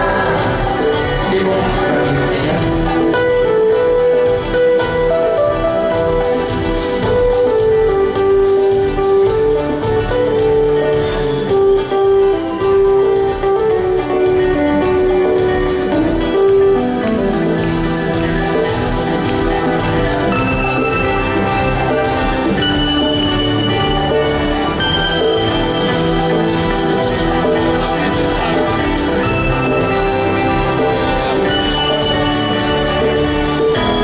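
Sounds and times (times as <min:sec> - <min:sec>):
melodic lead line: 0:00.0 - 0:34.0
steady drum beat: 0:00.0 - 0:34.0.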